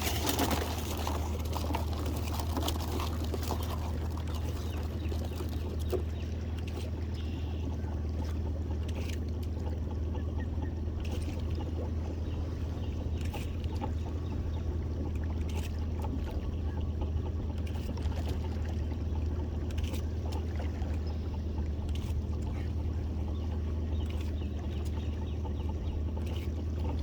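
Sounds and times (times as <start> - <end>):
outboard motor humming: 0.0 - 27.0
water noise: 0.0 - 27.0.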